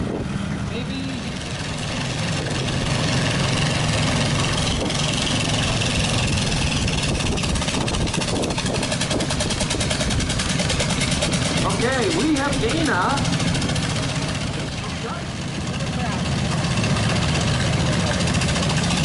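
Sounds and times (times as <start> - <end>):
lawn tractor engine running: 0.0 - 19.0.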